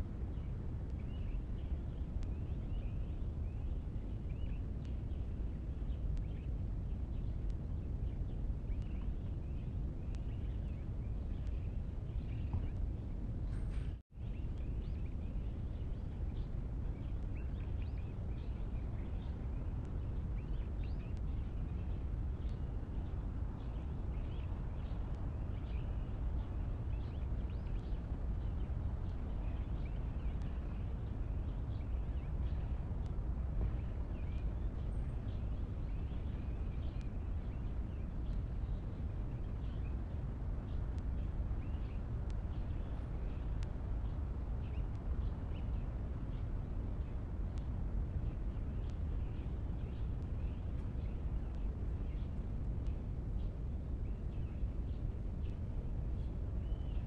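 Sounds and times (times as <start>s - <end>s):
low outdoor background rumble: 0.0s - 57.0s.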